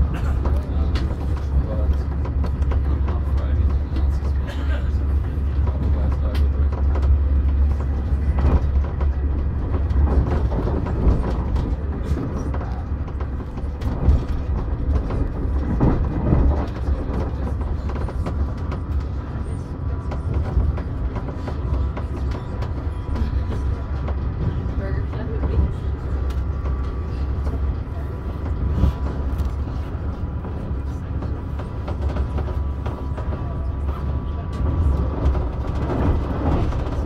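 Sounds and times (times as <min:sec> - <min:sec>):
train rumbling inside carriage: 0:00.0 - 0:37.0.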